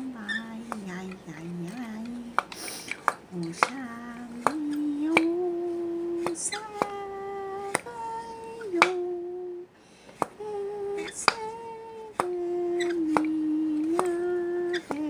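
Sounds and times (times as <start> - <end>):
person humming a slow tune: 0.0 - 15.0.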